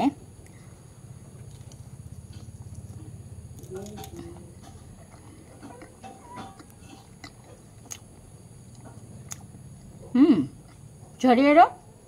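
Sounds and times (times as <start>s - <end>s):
low steady hum: 0.0s - 12.0s
person chewing food: 0.3s - 11.2s.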